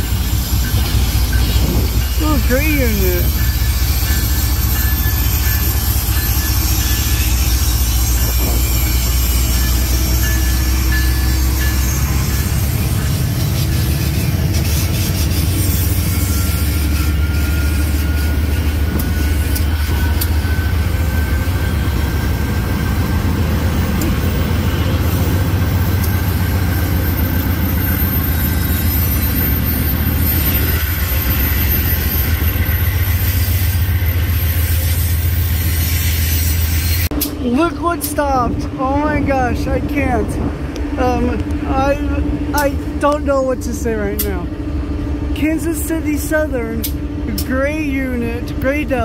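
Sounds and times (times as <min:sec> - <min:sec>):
locomotive engine rumble: 0:00.0 - 0:49.0.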